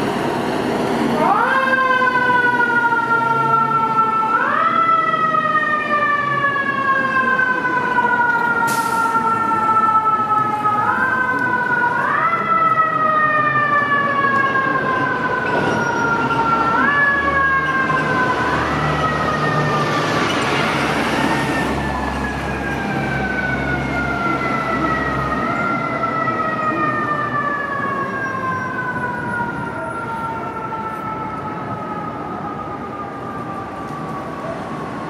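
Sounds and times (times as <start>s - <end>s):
fire engine siren sweeping: 0.0s - 35.0s.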